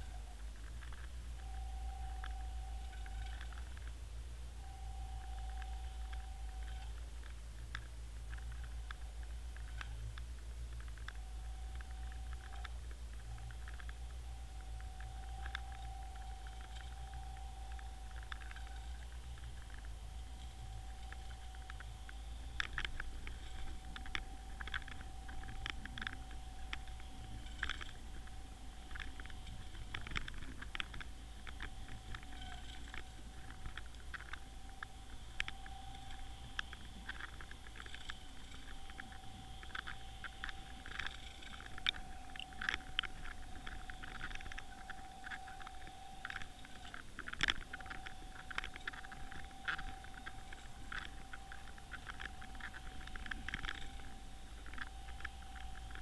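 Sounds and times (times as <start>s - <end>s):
crackle of sharp clicks: 0.0s - 56.0s
steady underwater hum: 0.0s - 56.0s.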